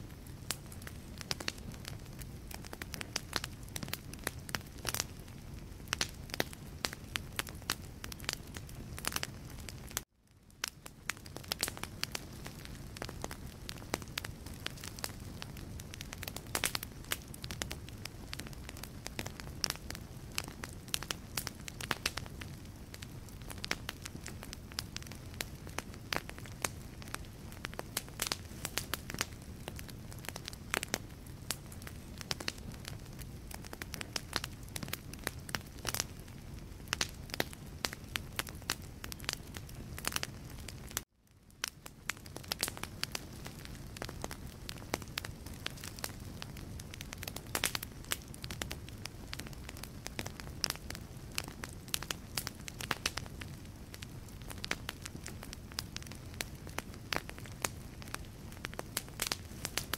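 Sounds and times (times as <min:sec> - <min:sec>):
fire crackles and pops: 0:00.0 - 0:59.9
low rumble of flames: 0:00.0 - 0:59.9.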